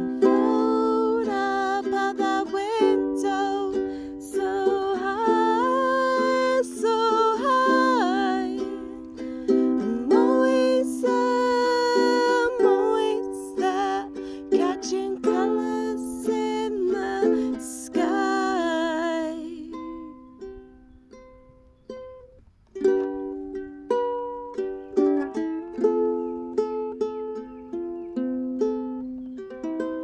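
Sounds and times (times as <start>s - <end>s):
ukulele playing: 0.0s - 30.0s.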